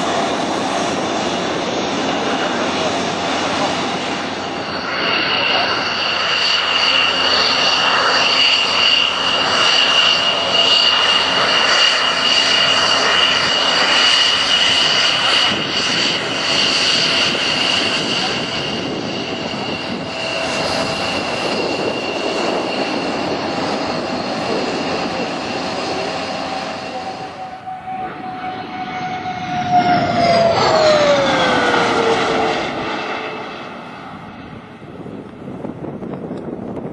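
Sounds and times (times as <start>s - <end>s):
jet engine whine and roar: 0.0s - 36.9s.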